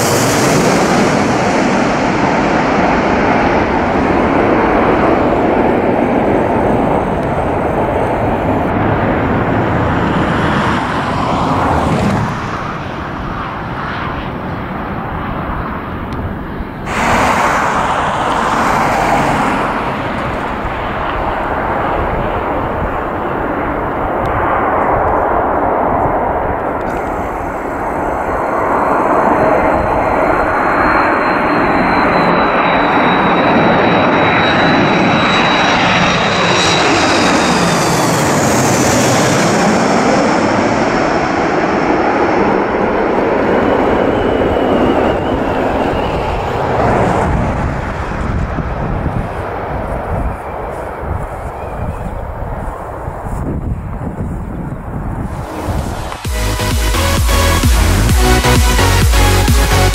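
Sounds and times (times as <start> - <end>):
high engine whine: 0.0 - 59.9
jet engines roaring: 0.0 - 59.9.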